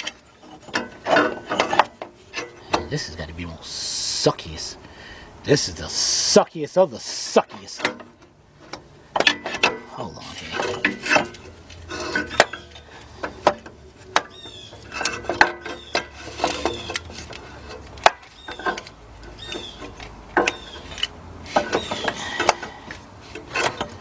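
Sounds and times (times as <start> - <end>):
metal clunks and scrapes: 0.0 - 4.1, 5.6 - 24.0.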